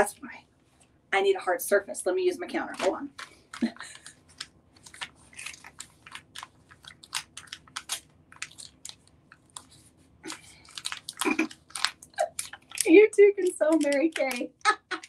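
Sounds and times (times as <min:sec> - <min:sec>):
plastic packet crinkling: 0:02.7 - 0:15.0.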